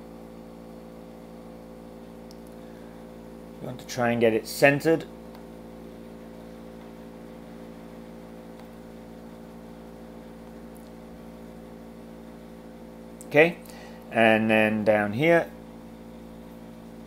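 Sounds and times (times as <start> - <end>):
low tones hum: 0.0 - 17.0.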